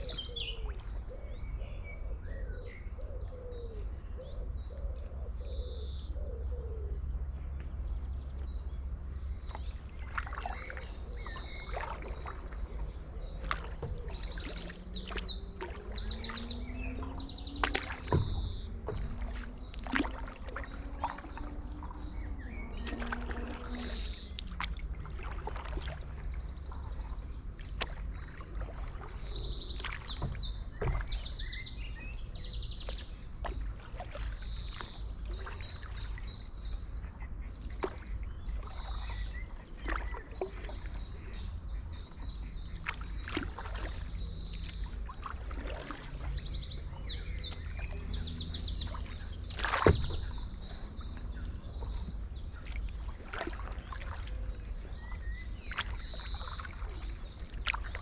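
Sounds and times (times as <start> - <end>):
paddle splashing through water: 0.0 - 1.6, 7.6 - 58.0
songbirds trilling: 0.0 - 58.0
steady low rumble: 3.8 - 58.0.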